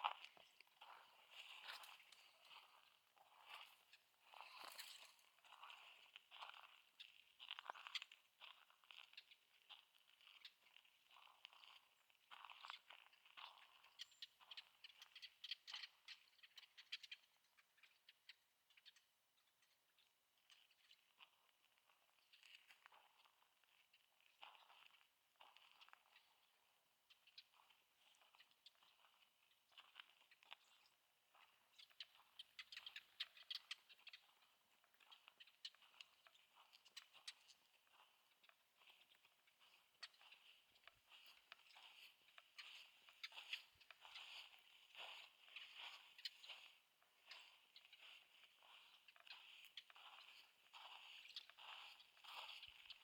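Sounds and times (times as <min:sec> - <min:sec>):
footsteps crunching on a trail: 0:00.0 - 0:15.8, 0:21.0 - 0:53.0.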